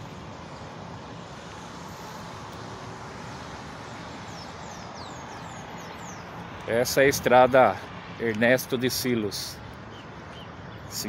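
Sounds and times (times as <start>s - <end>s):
distant road traffic hiss: 0.0s - 11.0s.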